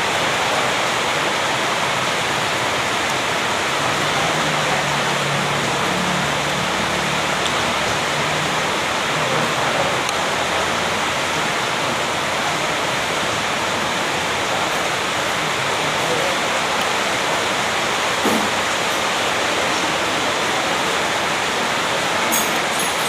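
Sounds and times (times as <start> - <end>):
faint low voices: 0.0 - 23.0
loud rushing noise: 0.0 - 23.0.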